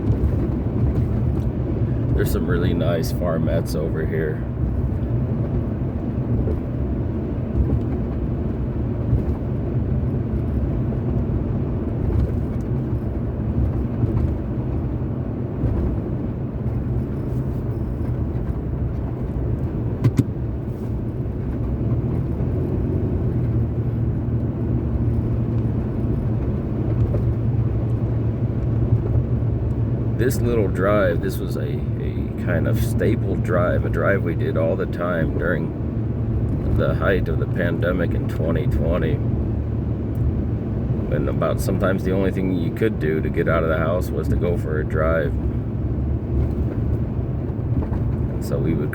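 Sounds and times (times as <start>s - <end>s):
car engine: 0.0s - 48.9s
road and tyre noise: 0.0s - 48.9s.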